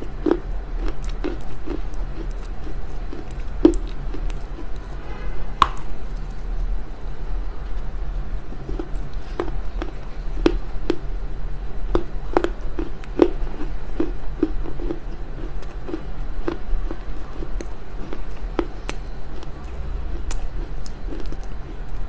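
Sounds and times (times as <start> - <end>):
crunching and chewing clay: 0.0 - 5.0, 5.6 - 22.0
steady low hum: 0.0 - 22.0.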